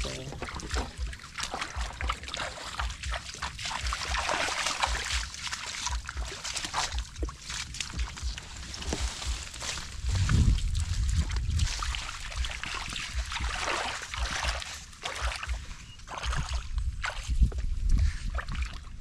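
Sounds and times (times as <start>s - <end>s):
leaves and stems swishing: 0.0s - 17.4s
footsteps through wet grass: 0.0s - 19.0s.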